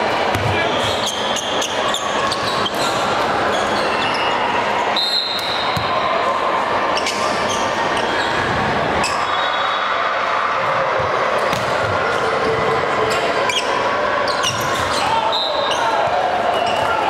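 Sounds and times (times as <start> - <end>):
din of voices in gym: 0.0 - 17.0.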